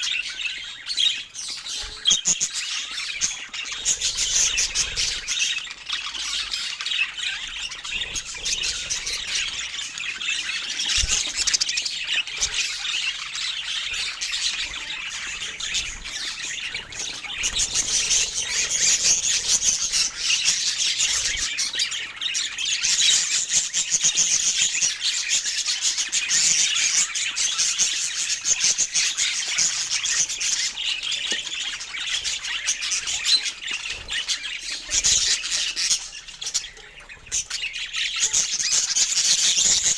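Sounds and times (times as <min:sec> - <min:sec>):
parakeets chattering and chirping: 0:00.0 - 0:39.9.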